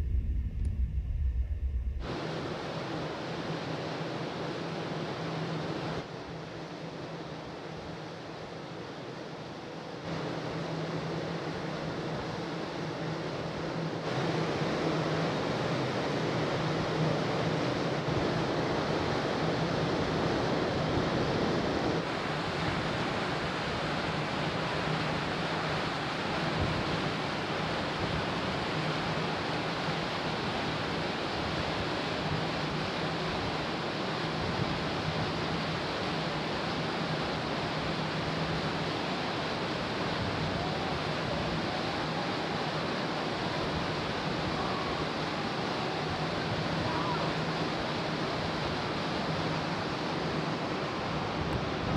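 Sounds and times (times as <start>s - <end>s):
wind and water rushing: 2.0s - 51.9s.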